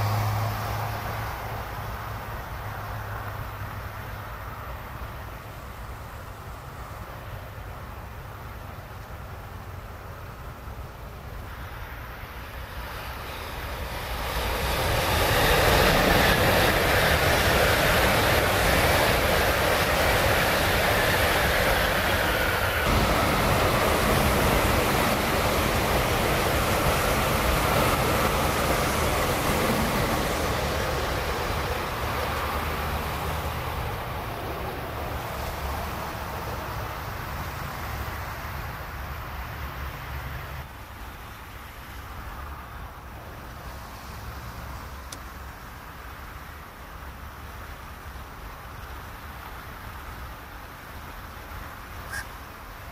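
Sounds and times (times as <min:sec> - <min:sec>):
high-speed train rushing past: 0:00.0 - 0:52.9.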